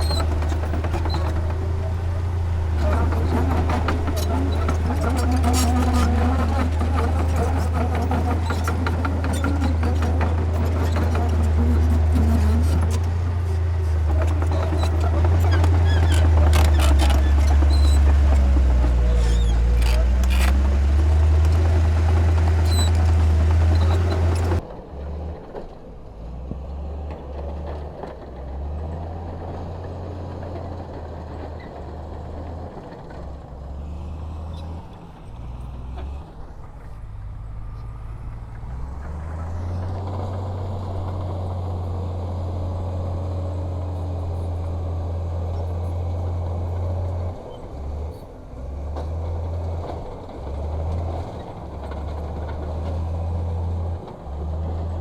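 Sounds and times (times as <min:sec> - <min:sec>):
heavy machinery diesel engines: 0:00.0 - 0:55.0.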